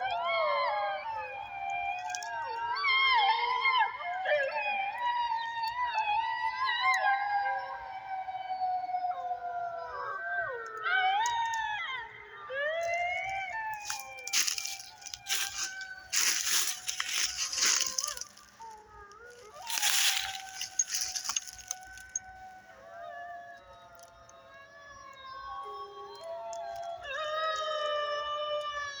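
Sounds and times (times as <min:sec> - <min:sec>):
animals howling in chorus: 0:00.0 - 0:29.0.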